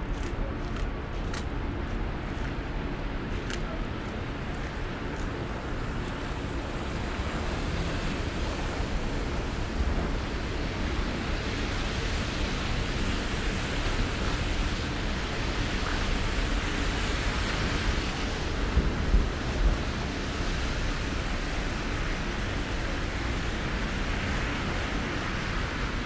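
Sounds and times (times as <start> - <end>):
storm wind buffeting microphone: 0.0 - 26.0.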